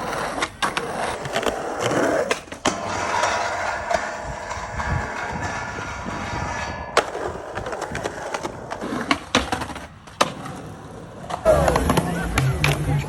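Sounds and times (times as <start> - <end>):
skateboard clacks and landings: 0.0 - 13.0
skateboard wheels rolling on concrete: 0.0 - 13.0.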